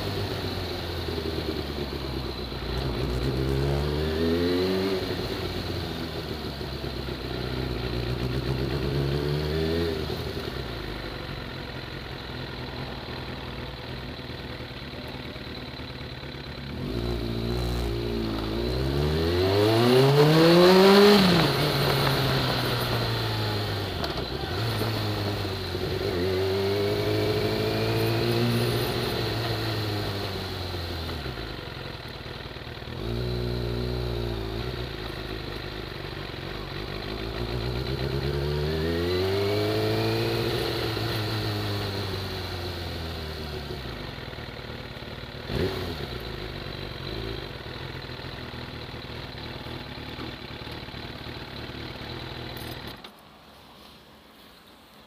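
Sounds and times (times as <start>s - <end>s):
motorcycle engine revving: 0.0s - 53.1s.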